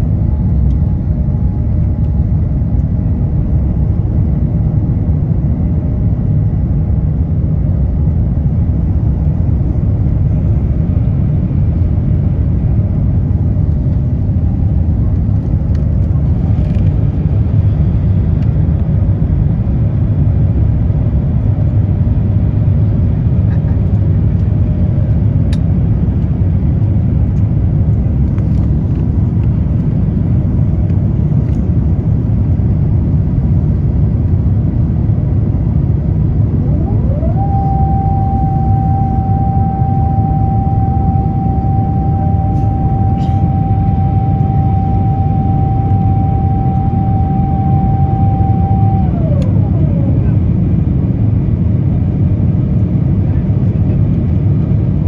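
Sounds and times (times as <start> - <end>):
airplane cabin engine roar: 0.0 - 55.0.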